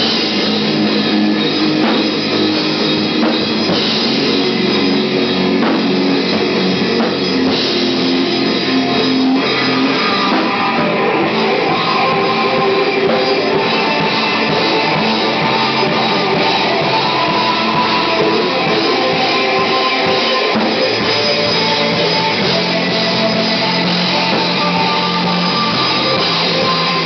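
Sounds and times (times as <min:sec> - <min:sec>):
drum kit: 0:00.0 - 0:27.0
electric guitar: 0:00.0 - 0:27.0.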